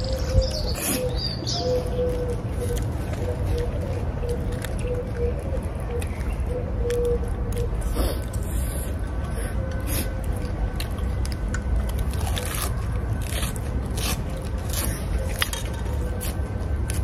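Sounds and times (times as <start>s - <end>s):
people chewing: 0.0s - 17.0s
steady low rumble: 0.0s - 17.0s.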